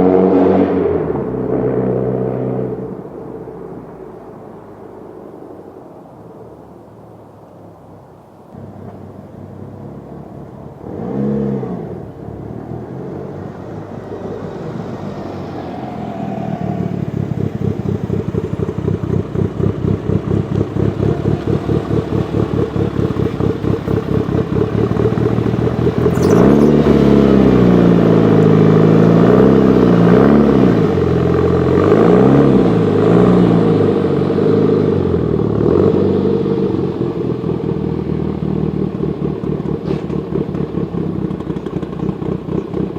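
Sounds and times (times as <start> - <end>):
car engine revving: 0.0 - 5.4, 8.6 - 42.9
car engine idling: 1.1 - 10.9, 11.8 - 42.9.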